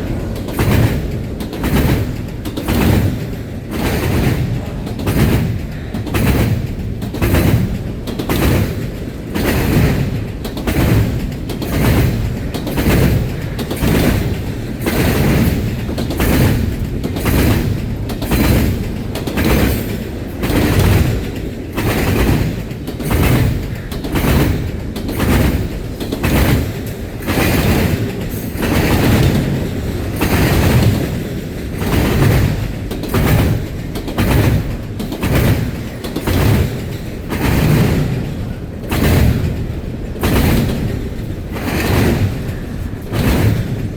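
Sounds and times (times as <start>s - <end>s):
low train rumble: 0.0s - 43.9s
train wheels clacking on rail joints: 0.0s - 43.9s.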